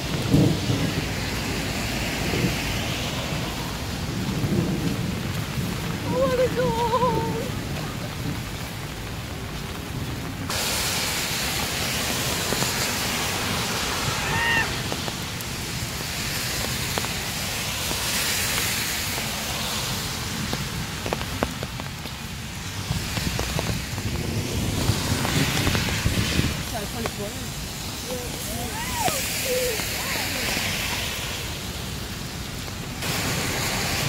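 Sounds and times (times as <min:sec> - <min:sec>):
car traffic on wet roads: 0:00.0 - 0:34.0
rain hiss: 0:00.0 - 0:34.0.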